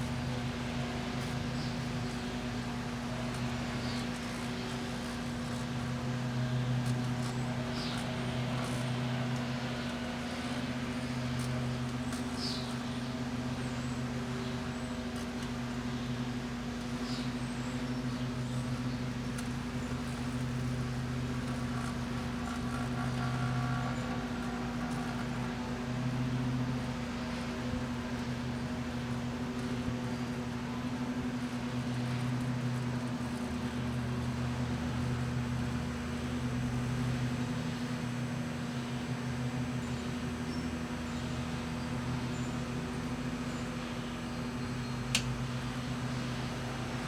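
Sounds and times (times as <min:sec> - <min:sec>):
microwave ovens humming: 0:00.0 - 0:47.0.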